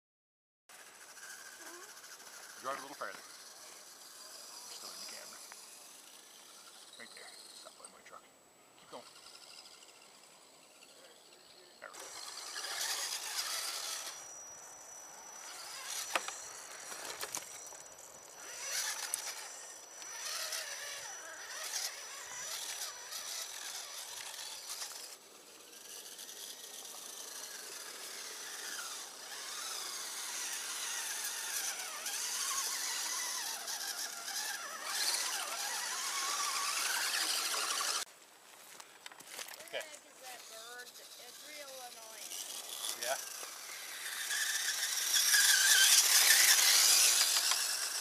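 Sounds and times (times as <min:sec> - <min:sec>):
electric motor and gears whining: 0:00.7 - 0:08.2, 0:08.8 - 0:48.0.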